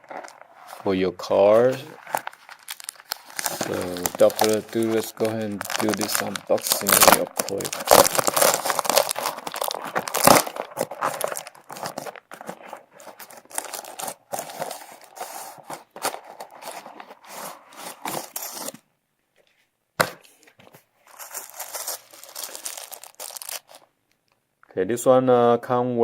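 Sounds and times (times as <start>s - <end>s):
plastic packaging tearing and crinkling: 0.0s - 18.8s, 21.1s - 23.9s.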